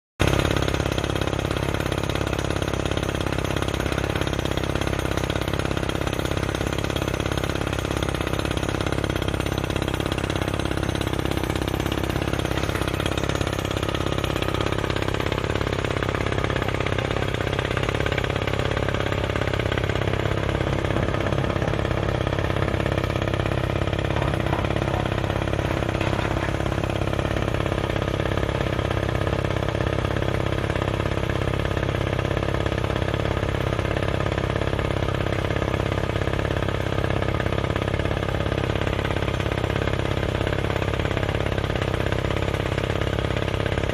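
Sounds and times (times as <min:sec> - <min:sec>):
drilling rig engine running: 0:00.2 - 0:43.9.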